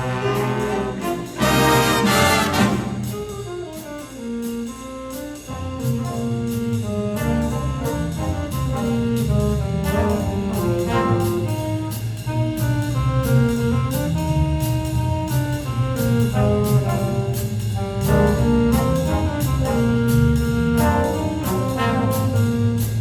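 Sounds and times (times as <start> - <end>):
big band swing jazz: 0.0 - 23.0
brass ensemble hit: 0.0 - 23.0.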